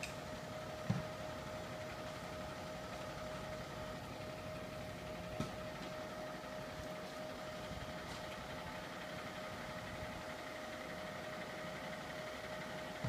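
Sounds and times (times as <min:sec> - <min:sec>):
fire truck engine running: 0:00.0 - 0:13.0.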